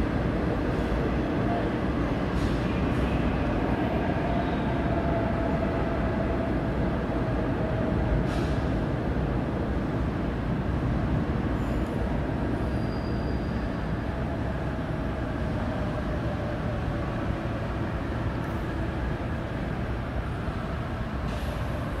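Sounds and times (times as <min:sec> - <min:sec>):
subway train rumble and hum: 0:00.0 - 0:22.0.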